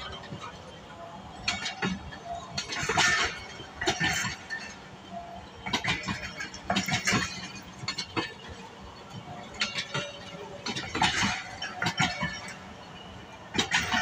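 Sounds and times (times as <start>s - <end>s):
train wheels clacking over rail joints: 1.4s - 14.0s.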